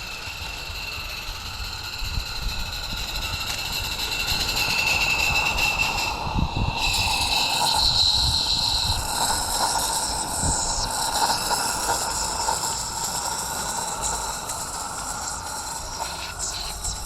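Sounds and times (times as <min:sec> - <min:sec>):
low steam puffs: 0:00.0 - 0:17.0
steam hissing: 0:00.0 - 0:17.0.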